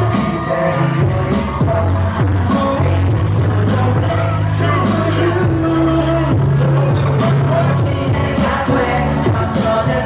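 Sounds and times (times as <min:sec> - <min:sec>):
pop song over loudspeakers: 0:00.0 - 0:10.0.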